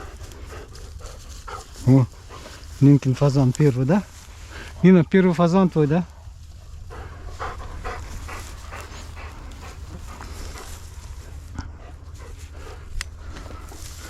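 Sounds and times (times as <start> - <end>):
dog panting: 0.0 - 4.8, 6.0 - 14.0.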